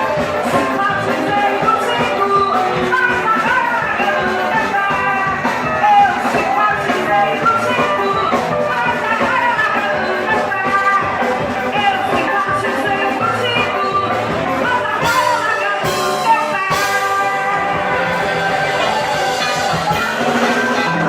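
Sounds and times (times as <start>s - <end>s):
drum kit: 0.0s - 21.0s
electric bass: 0.0s - 21.0s
fast lead guitar melody: 0.0s - 21.0s.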